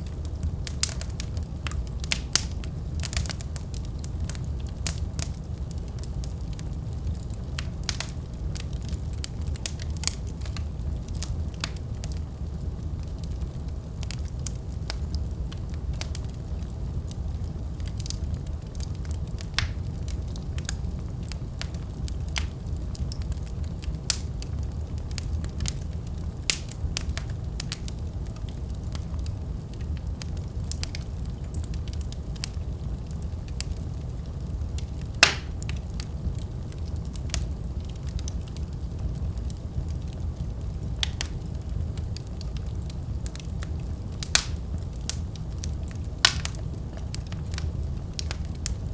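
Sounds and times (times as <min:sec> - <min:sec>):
burning wood crackling and popping: 0:00.0 - 0:48.9
fire flames rumbling: 0:00.0 - 0:48.9.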